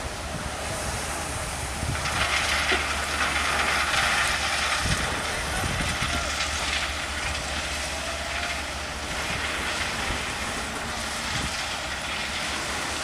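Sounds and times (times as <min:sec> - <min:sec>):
rumble of train wheels: 0:00.0 - 0:13.0
falling stone hissing: 0:00.8 - 0:13.0.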